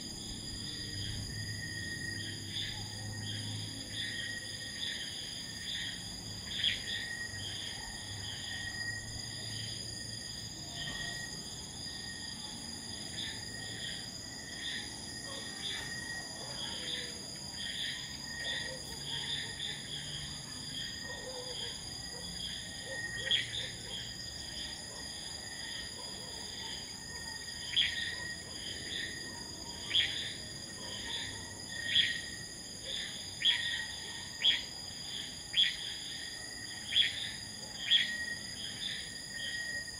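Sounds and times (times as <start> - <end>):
insect chirps: 0.0 - 39.9
insects trilling: 0.0 - 39.9.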